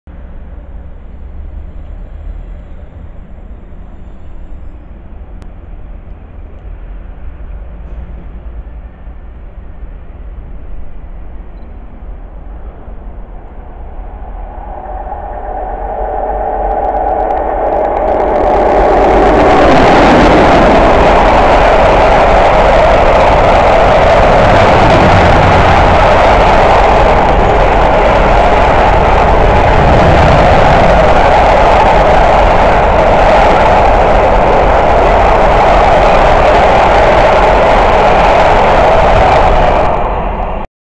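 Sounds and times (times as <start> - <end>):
freight train passing: 0.2 - 40.6.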